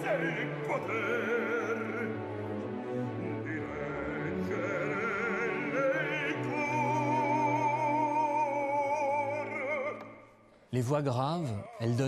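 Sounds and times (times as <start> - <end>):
orchestral accompaniment: 0.0 - 10.1
operatic bass singing: 0.0 - 10.2.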